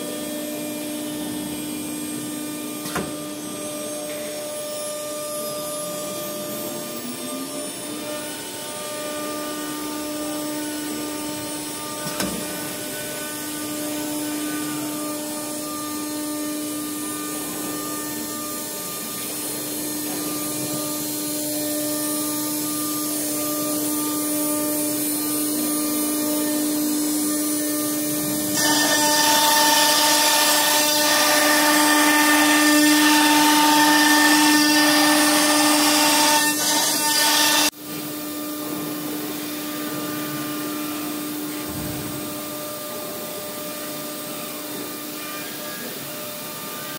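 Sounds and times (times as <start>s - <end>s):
cnc router spindle whine: 0.0s - 46.9s.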